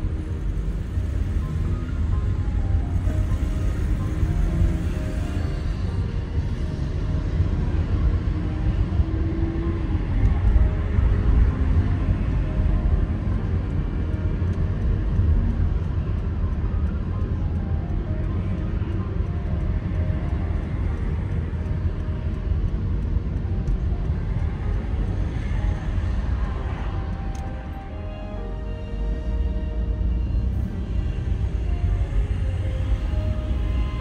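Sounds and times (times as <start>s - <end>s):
car driving on road: 0.0s - 34.0s.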